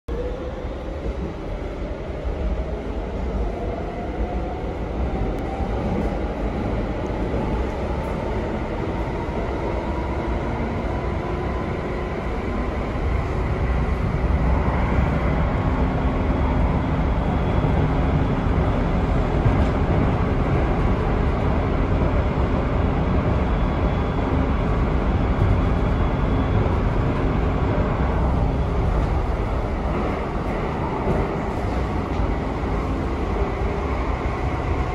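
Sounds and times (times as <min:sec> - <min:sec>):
wheel and rail rumble: 0:00.1 - 0:34.9.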